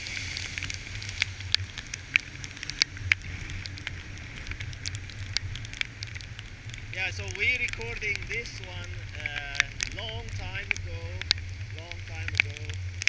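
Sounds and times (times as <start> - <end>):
steady low rumble: 0.0 - 13.0
water droplets ticking on camera: 0.0 - 13.0.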